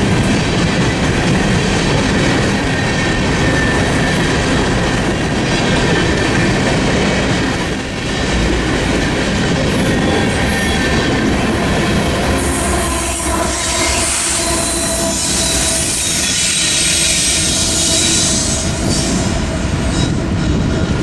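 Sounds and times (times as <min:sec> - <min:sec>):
freight train cars rumbling: 0:00.0 - 0:21.0
train wheels squealing: 0:02.1 - 0:21.0.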